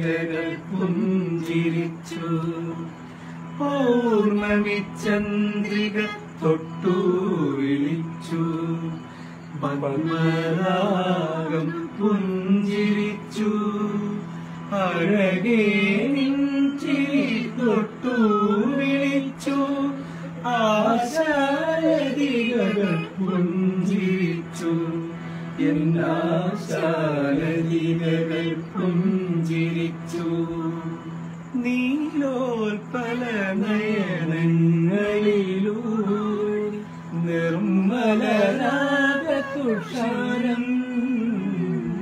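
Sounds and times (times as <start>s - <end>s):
harmonium drone: 0.0s - 42.0s
person singing ornamented melody: 0.0s - 42.0s.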